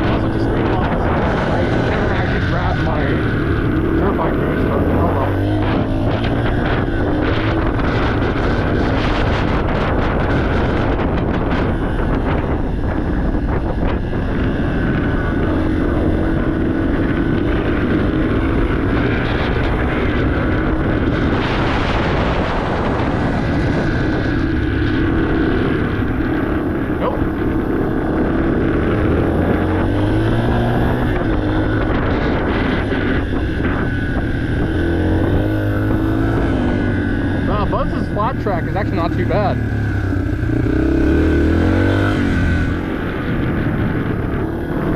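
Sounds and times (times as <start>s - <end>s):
dirt bike engine running: 0.0s - 44.9s
wind buffeting microphone: 0.0s - 44.9s.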